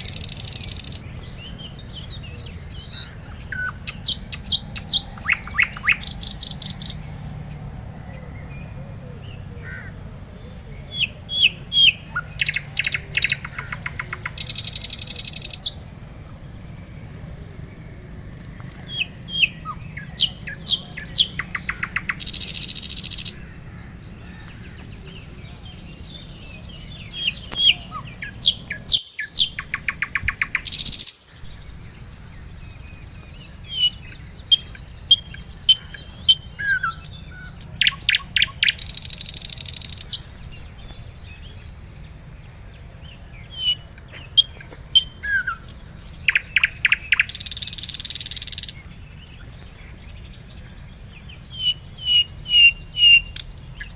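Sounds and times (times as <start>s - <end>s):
songbird chirps and trills: 0.0s - 53.9s
steady low rumble: 0.0s - 53.9s.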